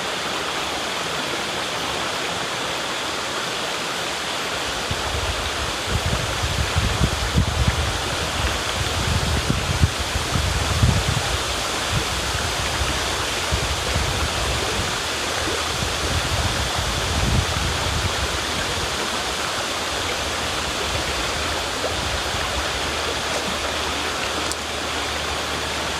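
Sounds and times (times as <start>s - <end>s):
river water rushing and splashing: 0.0s - 25.9s.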